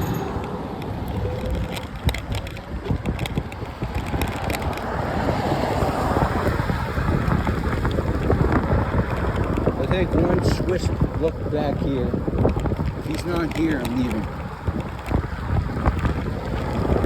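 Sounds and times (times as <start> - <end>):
bike tyres crunching on gritty ground: 0.0 - 17.0
wind buffeting microphone: 0.0 - 17.0.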